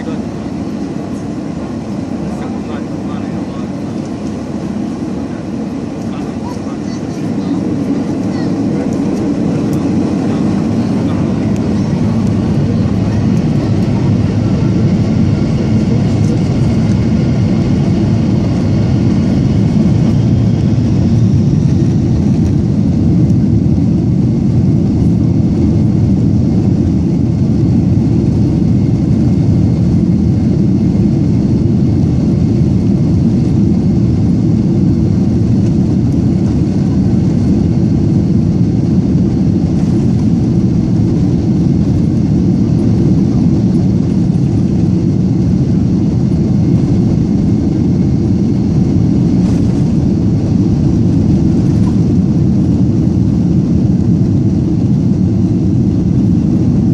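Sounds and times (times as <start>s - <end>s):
jet engines rumbling in cabin: 0.0s - 56.9s.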